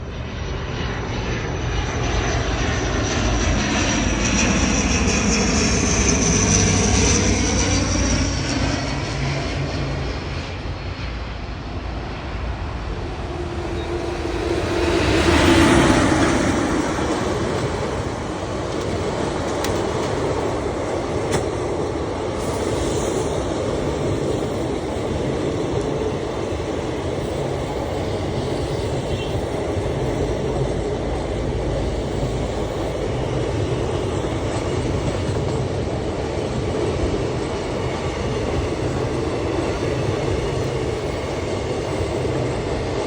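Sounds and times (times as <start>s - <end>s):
electric train rumbling past: 0.0s - 43.0s
locomotive whine: 0.0s - 43.0s.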